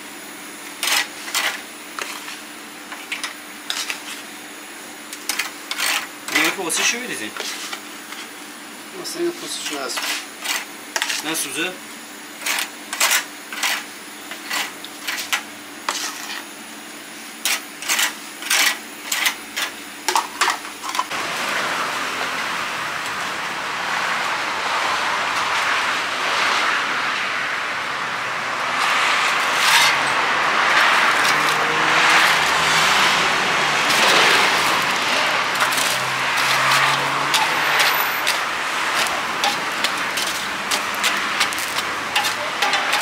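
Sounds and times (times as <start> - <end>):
street traffic noise: 0.0 - 43.0.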